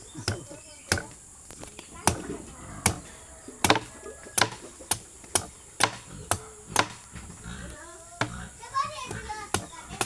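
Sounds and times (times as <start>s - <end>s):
blade chopping into coconut: 0.0s - 10.0s.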